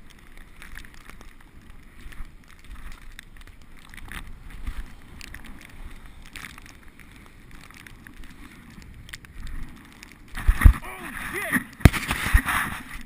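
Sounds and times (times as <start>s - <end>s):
bicycle clicks and rattles: 0.0s - 10.8s
wind and tyre rumble: 0.0s - 13.0s.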